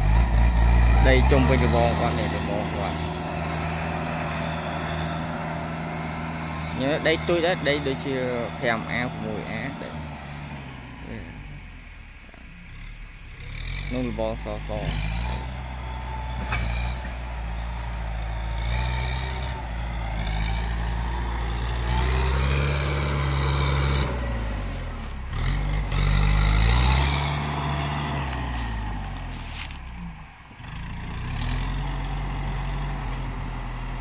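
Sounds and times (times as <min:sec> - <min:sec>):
tractor engine revving: 0:00.0 - 0:34.0.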